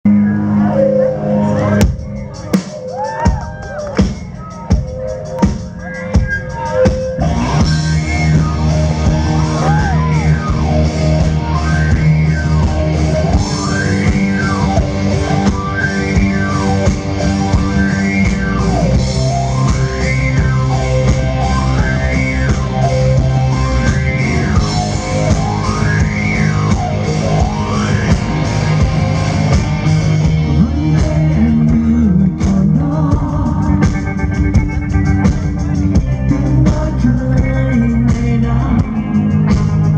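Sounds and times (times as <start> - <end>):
swooping tone: 0.1 - 32.2
rock band playing live: 0.1 - 39.9.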